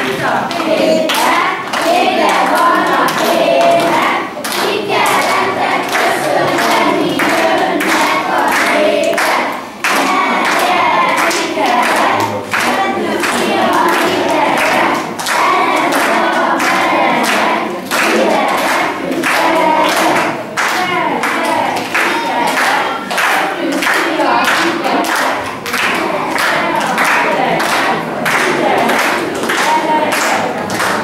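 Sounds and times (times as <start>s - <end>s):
children singing: 0.0s - 31.0s.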